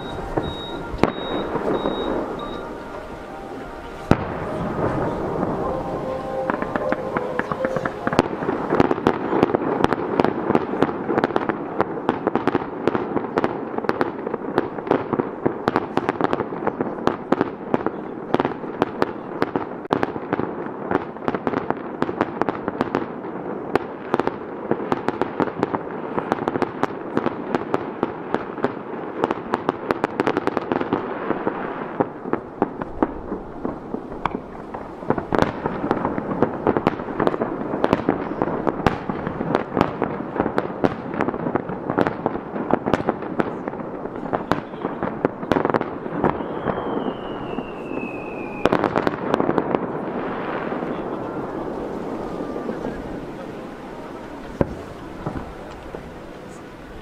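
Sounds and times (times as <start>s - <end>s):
fireworks bursting: 0.0s - 57.0s
fireworks crackle: 0.0s - 57.0s.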